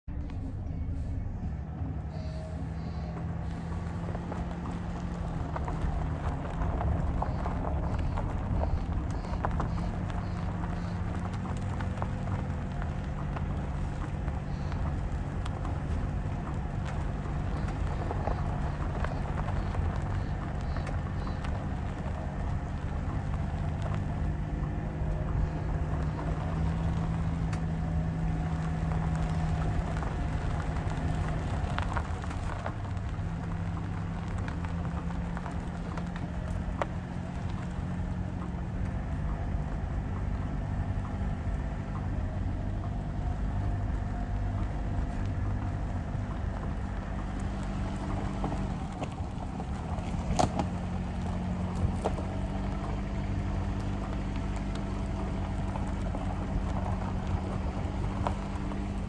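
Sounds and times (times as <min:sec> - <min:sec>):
car engine hum: 0:00.0 - 0:59.0
tyres crackling over gravel: 0:00.1 - 0:59.0.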